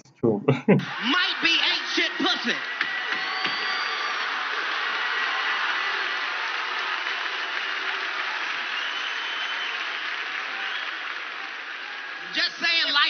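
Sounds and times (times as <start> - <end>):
audience applauding: 0.8 - 13.0.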